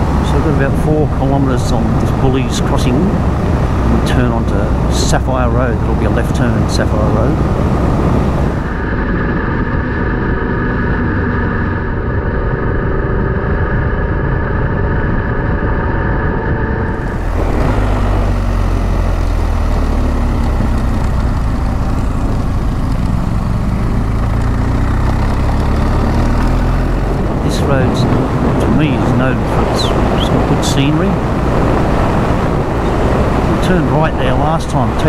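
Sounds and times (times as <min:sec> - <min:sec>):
motorcycle engine running: 0:00.0 - 0:35.0
wind on microphone: 0:00.0 - 0:35.0.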